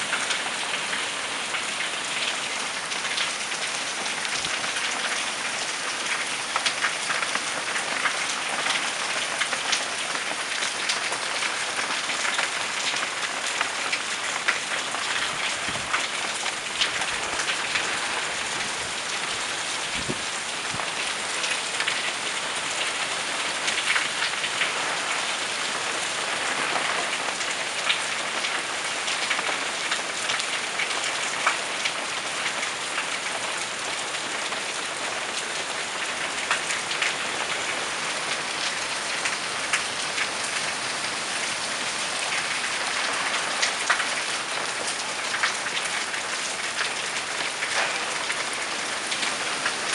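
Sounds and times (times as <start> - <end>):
heavy rain hiss: 0.0 - 30.8, 31.6 - 49.9
raindrops tapping close by: 0.0 - 49.9.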